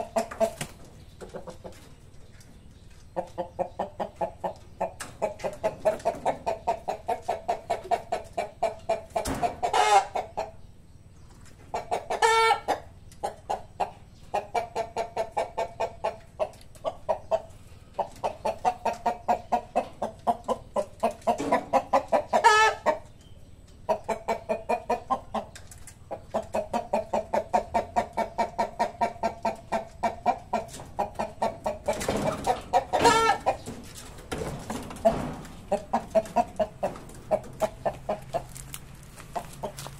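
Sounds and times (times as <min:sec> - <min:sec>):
chickens clucking: 0:00.0 - 0:39.9
drawn-out chicken calls: 0:00.0 - 0:39.9.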